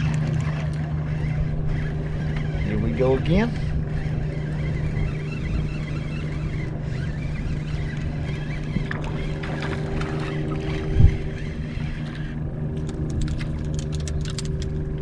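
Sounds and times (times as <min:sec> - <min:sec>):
steady low hum: 0:00.0 - 0:15.0
spinning reel being cranked: 0:01.1 - 0:14.7.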